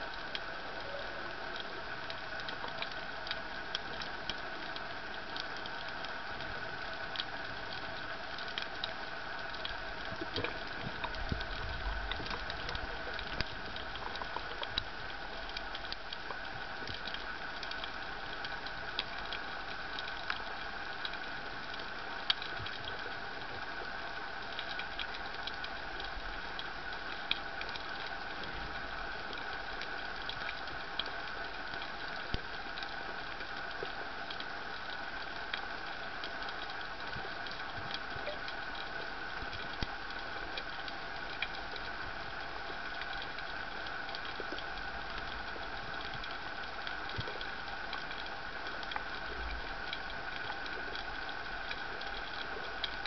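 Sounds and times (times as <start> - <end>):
steady mechanical hum: 0.0 - 53.0.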